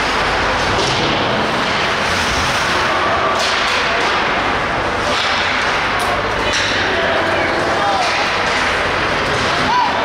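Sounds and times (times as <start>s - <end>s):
rink crowd din: 0.0s - 10.0s
sticks and puck clacking: 0.0s - 10.0s.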